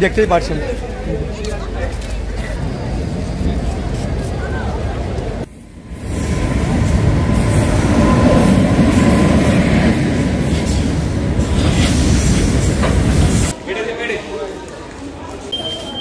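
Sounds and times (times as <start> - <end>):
train wheels rumbling on rails: 0.0 - 13.6.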